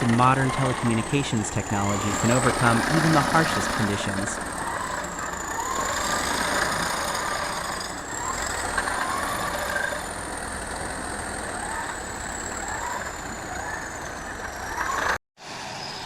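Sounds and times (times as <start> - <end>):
heavy machinery engine running: 0.0 - 15.2
high wavering whine: 0.0 - 16.0.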